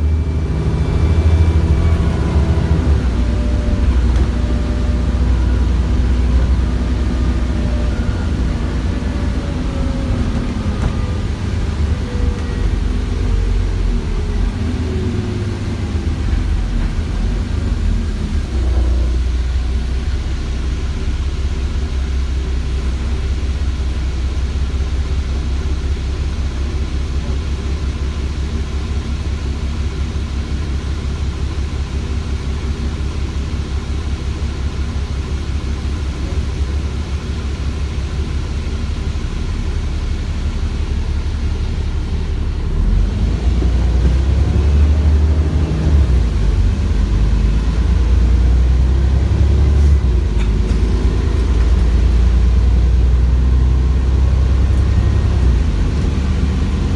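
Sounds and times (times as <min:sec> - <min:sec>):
bus diesel engine rumbling: 0:00.0 - 0:56.9.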